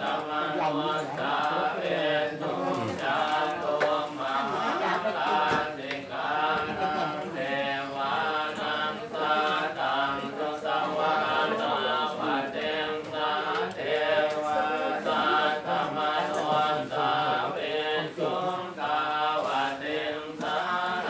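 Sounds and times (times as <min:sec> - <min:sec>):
group chanting in monotone: 0:00.0 - 0:21.0.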